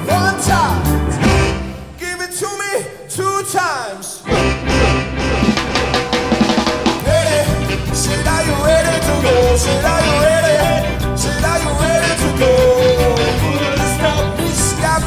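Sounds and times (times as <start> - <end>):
live ska band playing: 0.0 - 2.0, 4.2 - 15.0.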